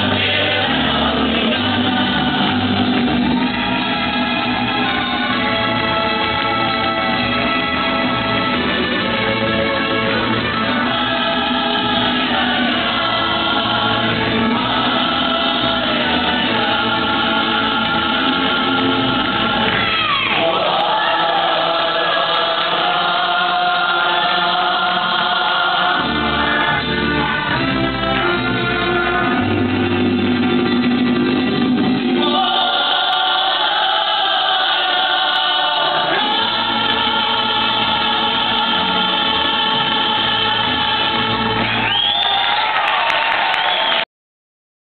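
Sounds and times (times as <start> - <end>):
mariachi band playing and singing: 0.0 - 42.3.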